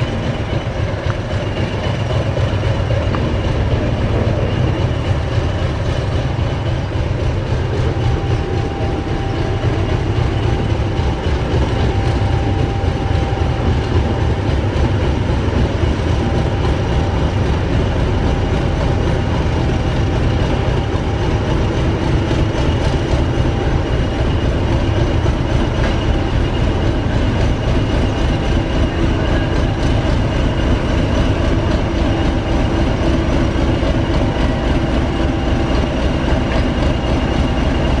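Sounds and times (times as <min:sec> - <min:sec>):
constant engine whine: 0:00.0 - 0:38.0
diesel locomotive engine throbbing: 0:00.0 - 0:38.0.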